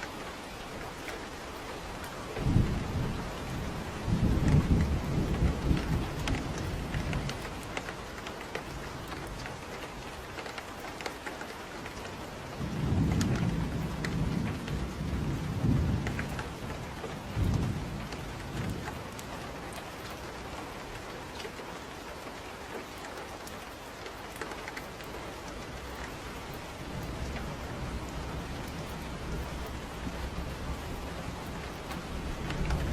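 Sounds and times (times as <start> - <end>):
thunder rumbling: 0.0 - 10.4, 11.8 - 21.9, 24.7 - 32.9
rain drop ticks: 0.0 - 32.9
steady rain falling: 0.0 - 32.9.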